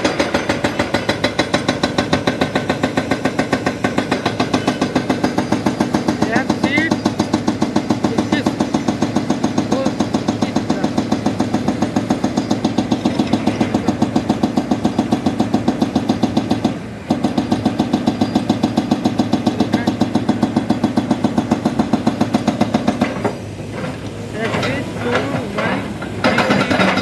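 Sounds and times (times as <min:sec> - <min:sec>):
hydraulic breaker hammering rock: 0:00.0 - 0:27.0.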